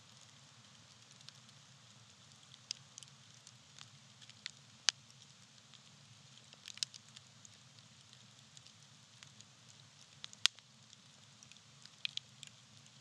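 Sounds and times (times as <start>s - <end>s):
campfire crackling: 0.1s - 13.0s.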